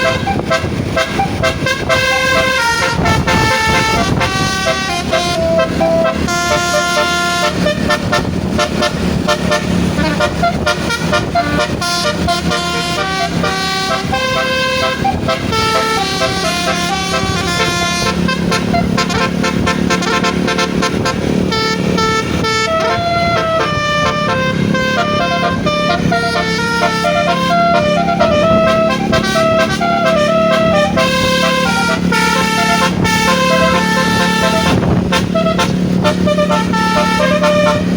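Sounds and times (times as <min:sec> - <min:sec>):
bus engine running: 0:00.0 - 0:37.9
musical bus horn playing a tune: 0:00.0 - 0:37.9.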